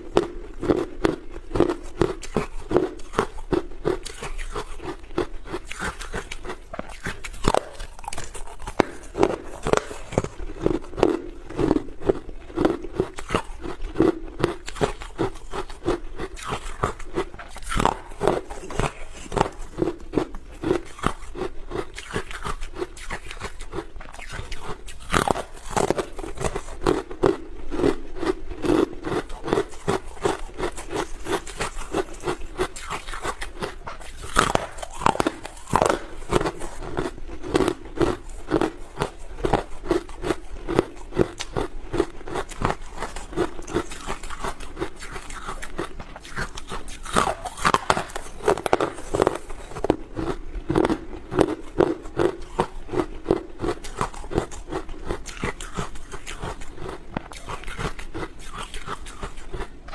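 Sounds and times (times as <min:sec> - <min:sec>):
person crunching ice: 0:00.0 - 0:59.9.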